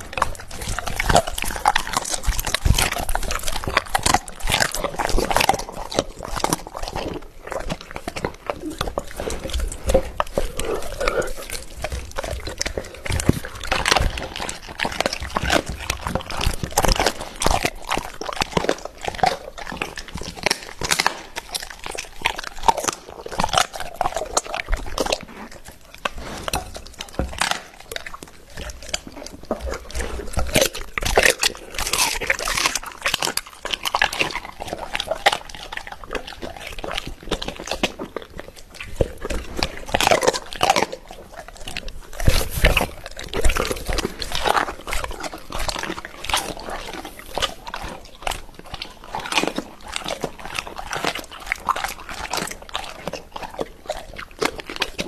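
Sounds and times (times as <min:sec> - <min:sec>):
dog crunching and biting: 0:00.0 - 0:55.0.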